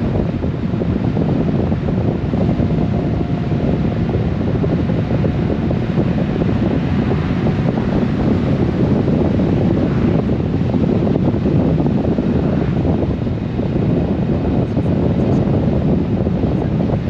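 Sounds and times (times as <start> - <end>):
motorcycle and road noise: 0.0 - 17.0
wind buffeting microphone: 0.0 - 17.0.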